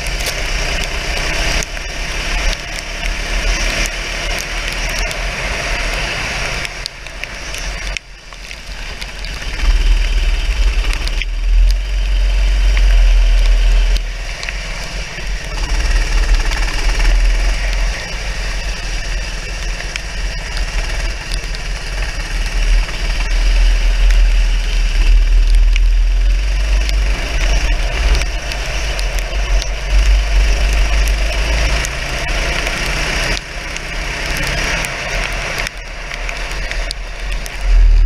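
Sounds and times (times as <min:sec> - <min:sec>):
go-kart engine running: 0:00.0 - 0:08.0, 0:08.7 - 0:38.0
wind and track spray hiss: 0:00.0 - 0:38.0.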